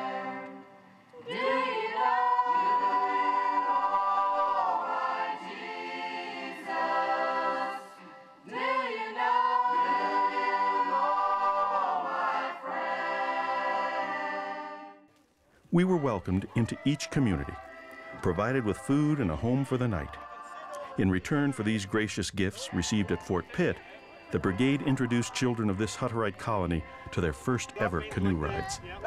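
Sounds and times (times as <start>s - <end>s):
choir of women singing hymn: 0.0s - 15.0s, 15.8s - 29.0s.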